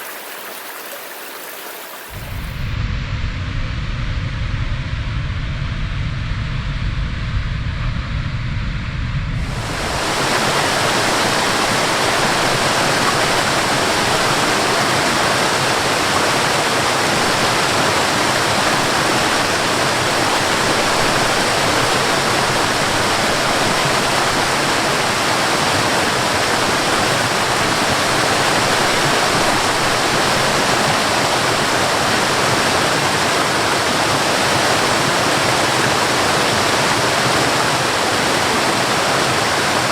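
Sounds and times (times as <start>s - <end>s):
waterfall rushing: 0.0s - 2.8s, 9.4s - 39.9s.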